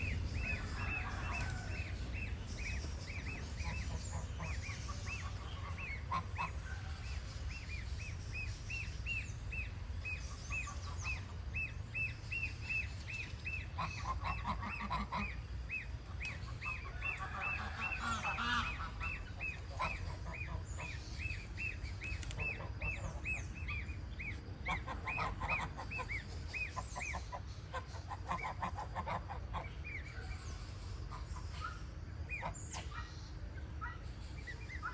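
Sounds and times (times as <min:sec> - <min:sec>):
goslings peeping: 0:00.0 - 0:34.9
steady low rumble: 0:00.0 - 0:34.9.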